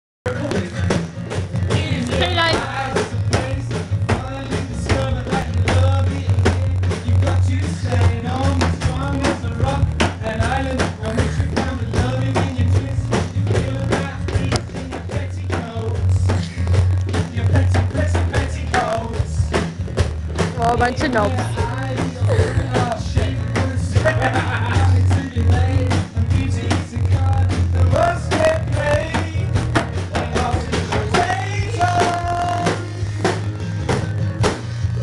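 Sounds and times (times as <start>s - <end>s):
bass: 0.2s - 35.0s
steady drum beat: 0.3s - 35.0s
person singing: 1.7s - 19.5s, 20.4s - 33.6s.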